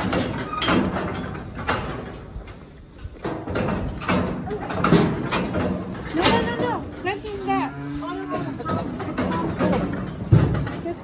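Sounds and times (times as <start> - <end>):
metal gates rattling and clanging: 0.0 - 11.0.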